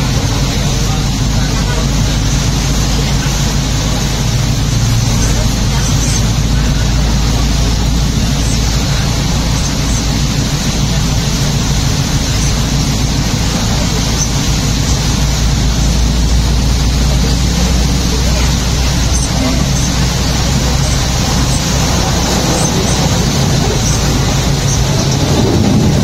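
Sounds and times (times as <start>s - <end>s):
car cabin rumble: 0.0s - 26.0s
wet road hiss and rain on car: 0.0s - 26.0s.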